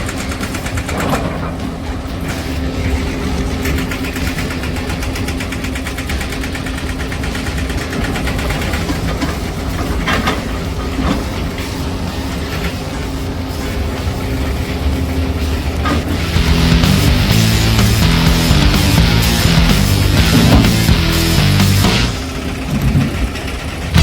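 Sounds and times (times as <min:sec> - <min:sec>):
excavator diesel engine hum: 0:00.0 - 0:24.0.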